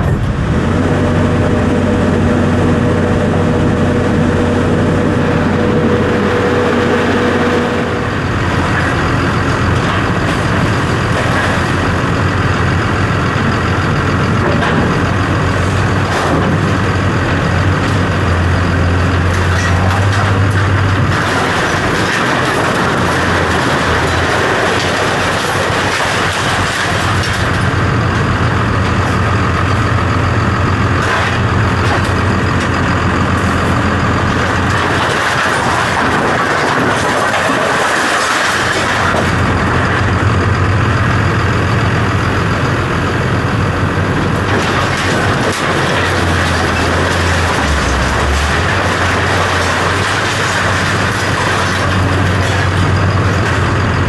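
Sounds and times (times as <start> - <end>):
heavy vehicle engine running: 0.0 - 54.0.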